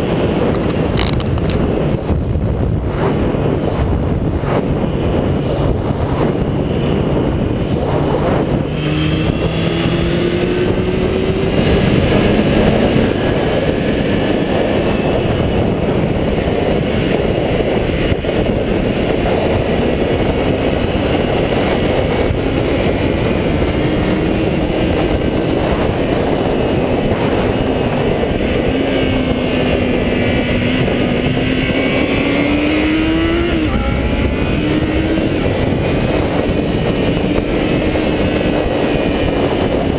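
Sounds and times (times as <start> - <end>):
motorcycle engine revving: 0.0 - 39.9
wind buffeting microphone: 0.0 - 39.9.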